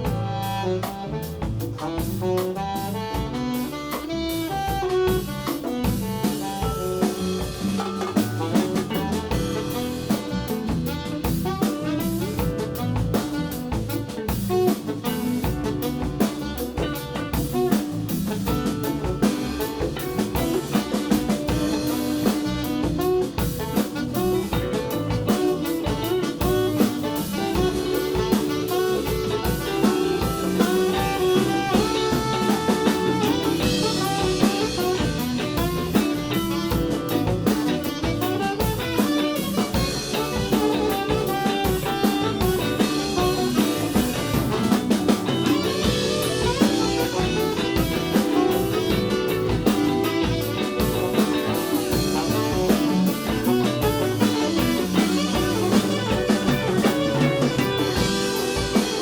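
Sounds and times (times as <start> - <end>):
drum kit: 0.0 - 59.0
guitar: 0.0 - 59.0
live band playing: 0.0 - 59.0.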